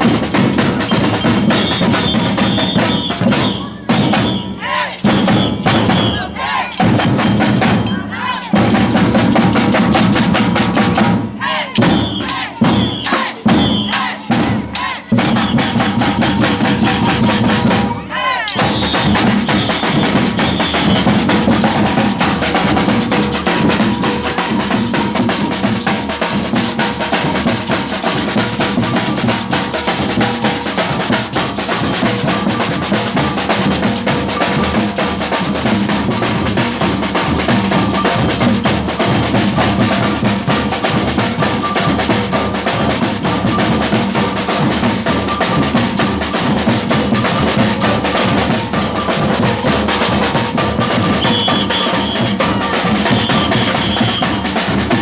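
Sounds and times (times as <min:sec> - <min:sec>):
samba percussion band: 0:00.0 - 0:55.0
snare drums: 0:00.0 - 0:55.0.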